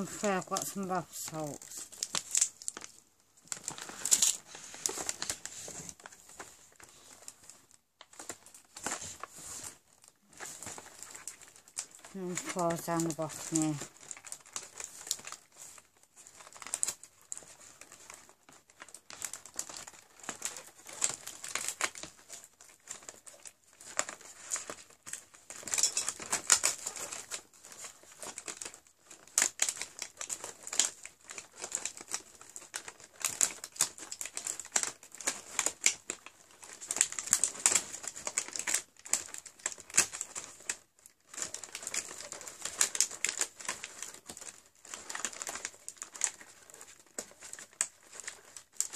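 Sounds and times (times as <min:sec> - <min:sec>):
cardboard crinkling and rustling: 0:00.0 - 0:48.9.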